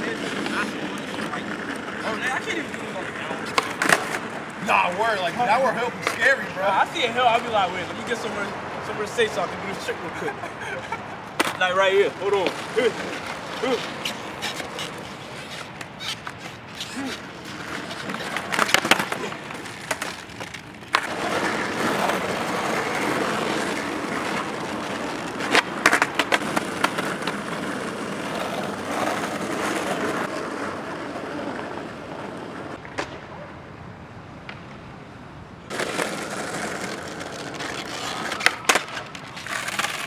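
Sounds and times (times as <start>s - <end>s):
skateboard clacks: 0.0s - 7.6s, 11.4s - 33.6s, 34.4s - 34.9s, 35.7s - 40.0s
skateboard wheels rolling on pavement: 0.0s - 40.0s.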